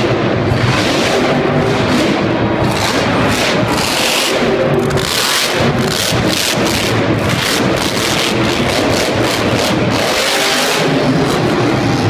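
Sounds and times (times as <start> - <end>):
monster truck engine rumbling: 0.0 - 12.0.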